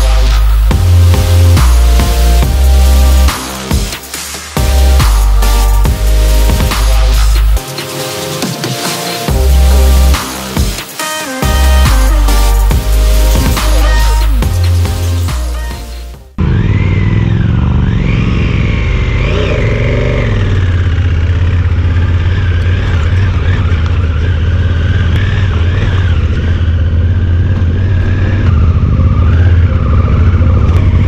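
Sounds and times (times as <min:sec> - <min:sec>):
motorcycle engine running: 0:00.0 - 0:07.7, 0:09.3 - 0:31.0.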